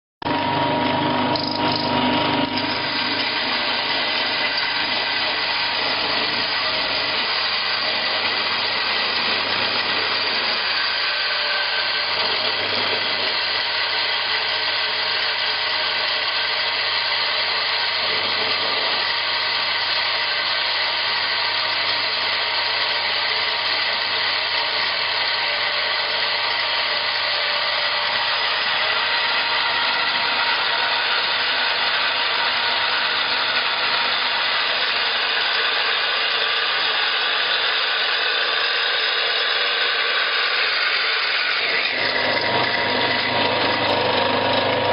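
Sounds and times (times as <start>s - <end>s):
grinder whining and humming: 0.2s - 44.9s.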